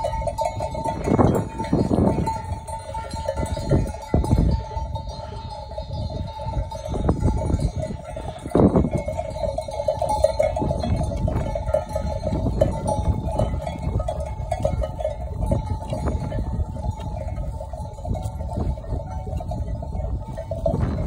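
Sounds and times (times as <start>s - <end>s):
sheep bells jangling: 0.0s - 21.0s.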